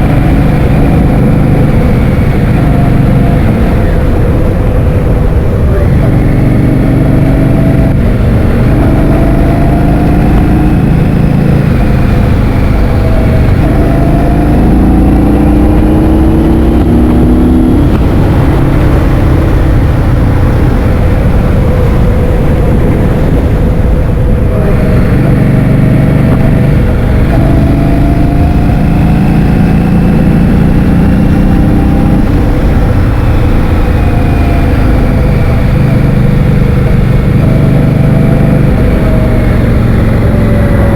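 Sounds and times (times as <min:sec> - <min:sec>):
vehicle engine revving: 0:00.0 - 0:40.9
wind buffeting microphone: 0:00.0 - 0:40.9.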